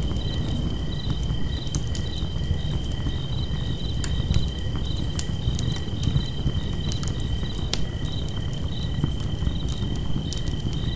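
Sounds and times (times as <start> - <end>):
campfire crackling and popping: 0.0 - 10.9
crickets trilling: 0.0 - 10.9.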